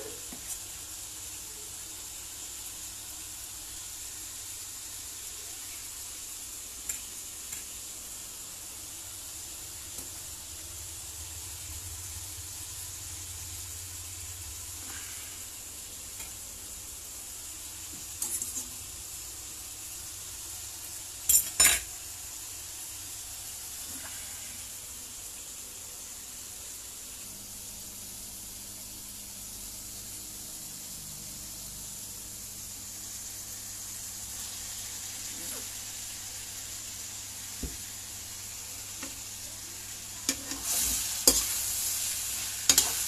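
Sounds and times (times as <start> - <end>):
meat sizzling: 0.0 - 43.0.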